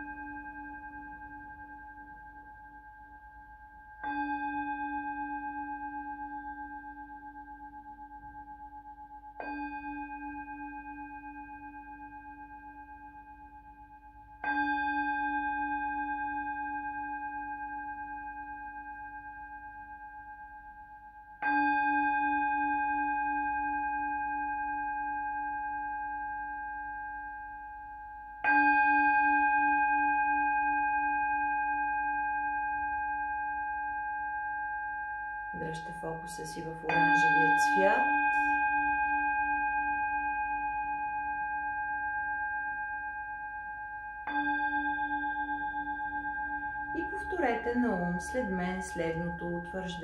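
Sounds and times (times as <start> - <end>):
singing bowl ringing: 0.0 - 50.0.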